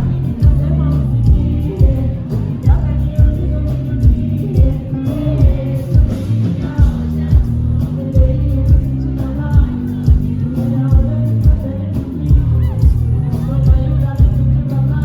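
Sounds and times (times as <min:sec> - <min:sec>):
heavy bass beat: 0:00.0 - 0:15.0
live concert band music: 0:00.0 - 0:15.0
person singing: 0:00.0 - 0:15.0.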